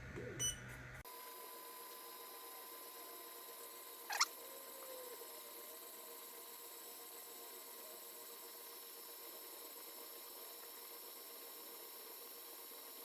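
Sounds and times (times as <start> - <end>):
laser engraver hum and whine: 0.0 - 13.0.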